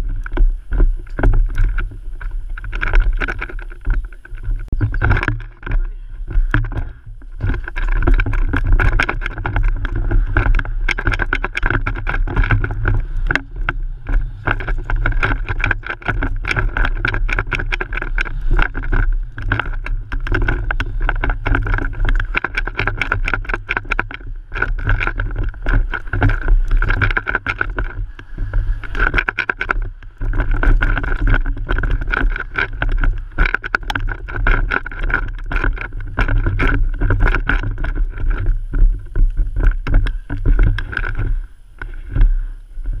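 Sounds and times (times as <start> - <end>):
bike rattling over bumps: 0.0 - 43.0
bike rumbling on dirt trail: 0.0 - 43.0.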